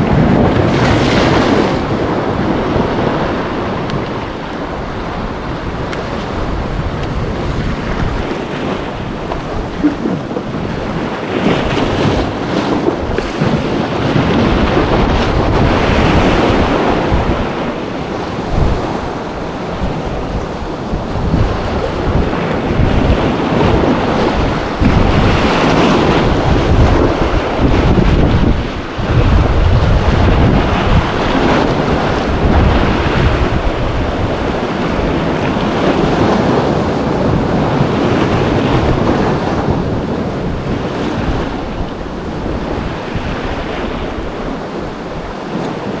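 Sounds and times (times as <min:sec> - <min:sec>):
sea waves washing: 0:00.0 - 0:46.0
wind buffeting microphone: 0:00.0 - 0:46.0.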